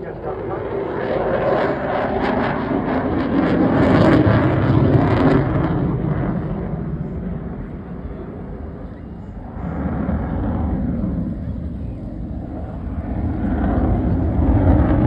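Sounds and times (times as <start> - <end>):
fighter jet flying past: 0.0 - 15.0.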